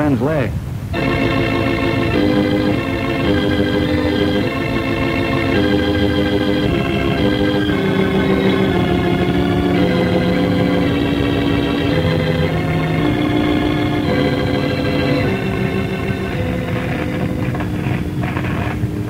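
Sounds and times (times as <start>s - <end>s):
organ chords: 0.9s - 19.0s.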